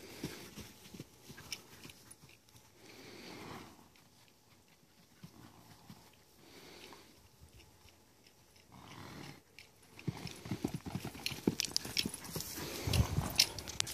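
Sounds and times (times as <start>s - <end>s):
horse hoofbeats on grass: 0.0s - 13.9s.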